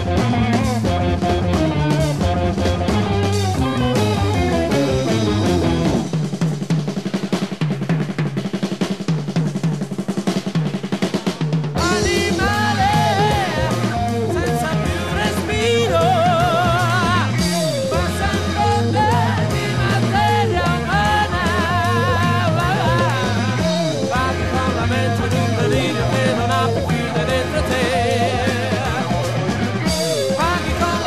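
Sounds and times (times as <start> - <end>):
drum kit break: 0.0 - 31.0
progressive rock band playing: 0.0 - 31.0.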